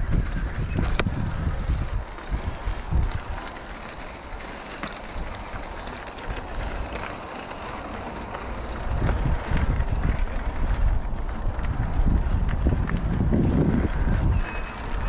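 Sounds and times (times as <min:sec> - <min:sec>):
bike clicks and rattles: 0:00.0 - 0:15.0
bike tyres on rocky trail: 0:00.0 - 0:15.0
wind rumbling on microphone: 0:00.0 - 0:15.0.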